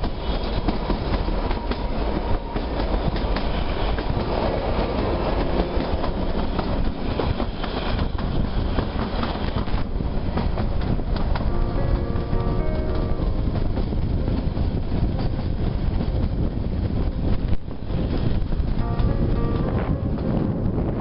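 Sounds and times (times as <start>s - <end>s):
wheels clicking on track: 0.0s - 11.5s, 13.5s - 18.9s
train wheels rumbling: 0.0s - 21.0s.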